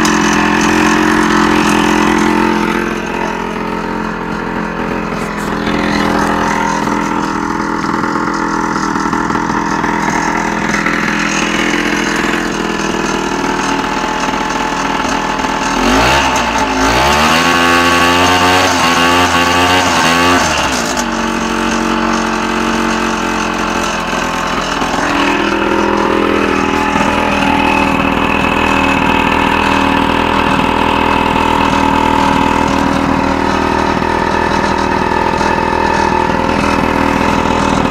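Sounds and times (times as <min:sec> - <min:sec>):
scooter engine idling and revving: 0:00.0 - 0:37.9.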